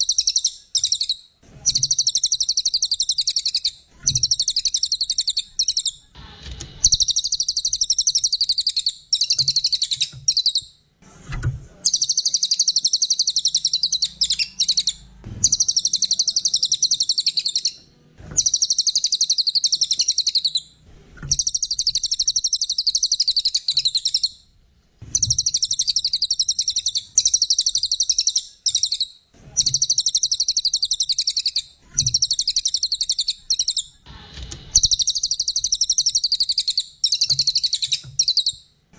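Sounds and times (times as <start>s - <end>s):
songbird chattering trills: 0.0s - 6.0s, 6.8s - 10.6s, 11.9s - 17.8s, 18.4s - 20.7s, 21.3s - 24.4s, 25.2s - 33.9s, 34.8s - 38.6s.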